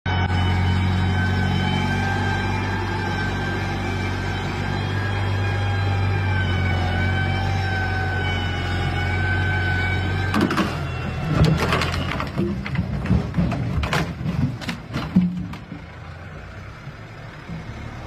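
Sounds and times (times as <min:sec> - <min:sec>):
tractor diesel engine drone: 0:00.1 - 0:18.0.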